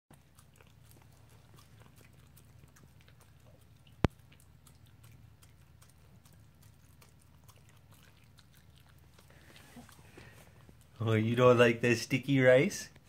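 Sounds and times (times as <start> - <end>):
dog chewing wet clicks: 0.1 - 11.6
low steady hum: 0.1 - 13.0.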